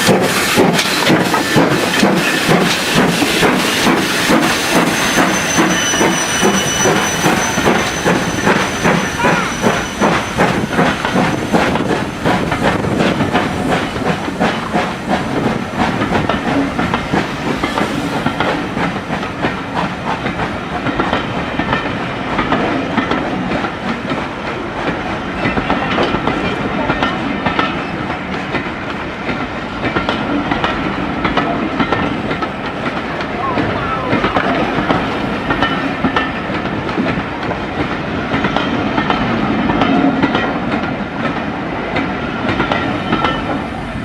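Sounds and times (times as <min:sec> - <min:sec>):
train wheels clattering over rail joints: 0:00.0 - 0:43.7.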